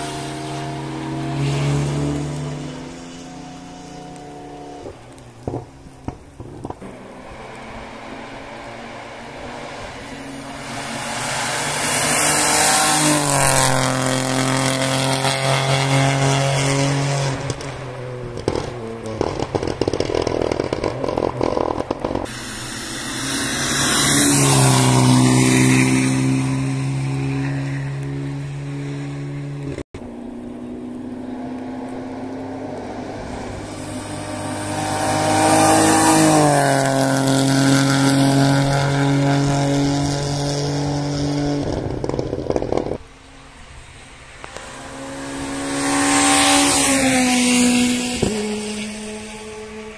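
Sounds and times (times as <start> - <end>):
rally cars passing at speed: 0.0 - 49.9.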